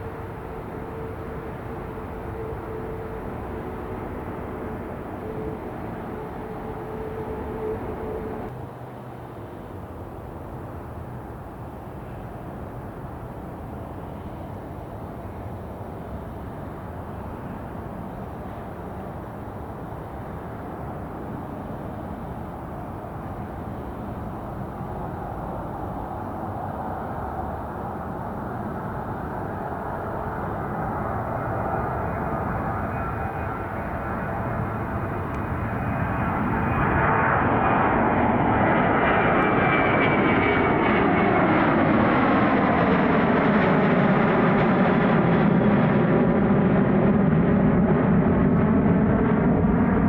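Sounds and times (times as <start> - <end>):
airliner engines roaring: 0.0 - 50.0.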